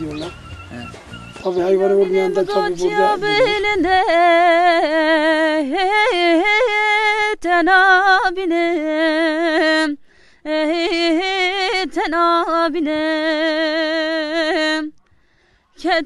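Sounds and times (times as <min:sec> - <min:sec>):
person singing wordless melody: 0:00.1 - 0:15.0.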